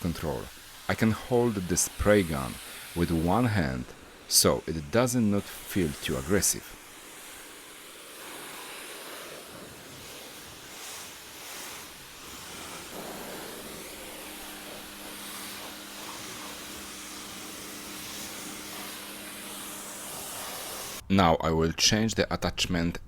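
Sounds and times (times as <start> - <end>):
pressure washer spray hissing: 0.0 - 21.0.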